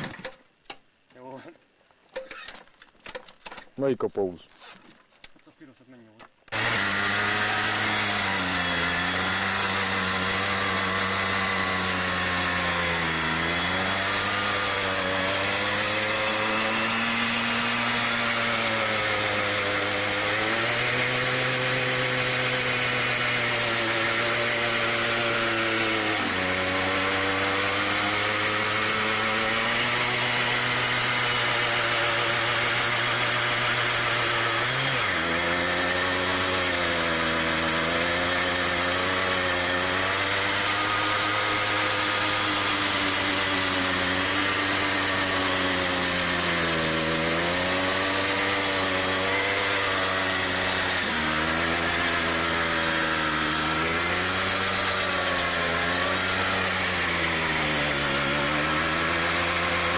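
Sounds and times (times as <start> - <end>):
moped engine revving hard: 6.5 - 59.9.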